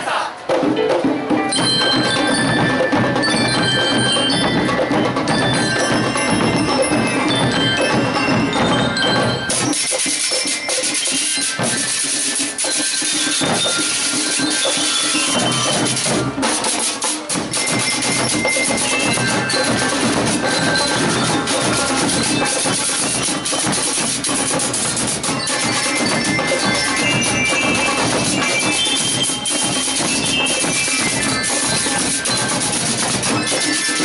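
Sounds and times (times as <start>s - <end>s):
drums: 0.0s - 34.0s
snare drums fast beat: 0.0s - 34.0s
bell-like melody: 0.8s - 34.0s.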